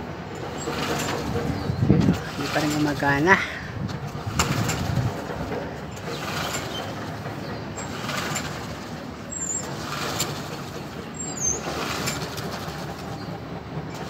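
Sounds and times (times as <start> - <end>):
lawnmower recoil starter pulls: 0.4 - 3.3, 4.0 - 13.3.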